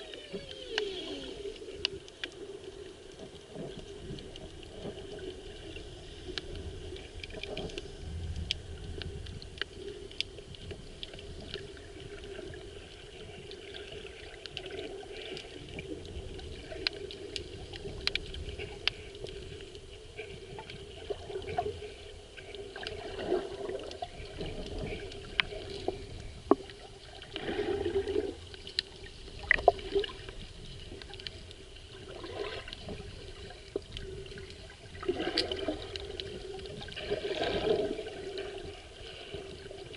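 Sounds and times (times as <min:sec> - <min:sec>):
gurgling water surges: 0:00.0 - 0:39.9
small sharp clicks and crackles: 0:00.0 - 0:39.9
underwater moving water: 0:00.0 - 0:39.9.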